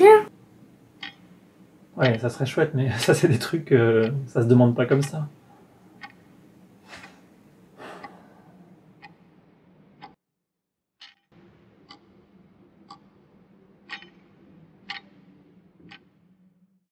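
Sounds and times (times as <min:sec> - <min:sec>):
clock ticking: 0:00.9 - 0:10.2, 0:11.0 - 0:16.6.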